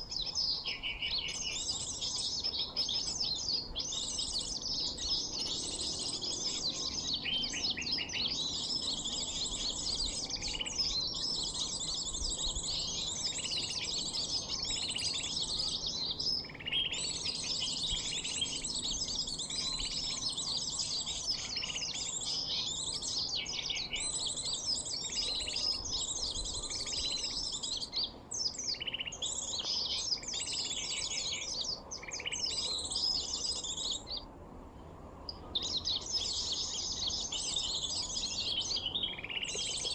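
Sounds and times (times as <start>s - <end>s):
high bird chirping and twittering: 0.0s - 34.3s, 35.2s - 39.9s.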